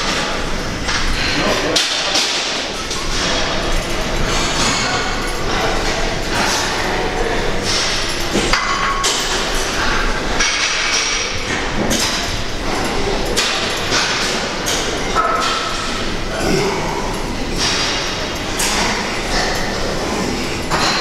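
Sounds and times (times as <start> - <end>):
gym weights clanking: 0.1 - 21.0.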